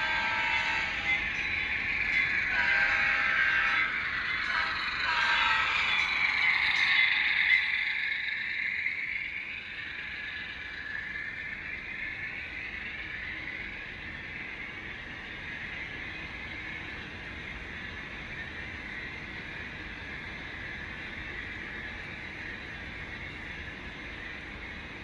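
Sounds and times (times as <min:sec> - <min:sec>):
model train whirring on rails: 0:00.0 - 0:25.0.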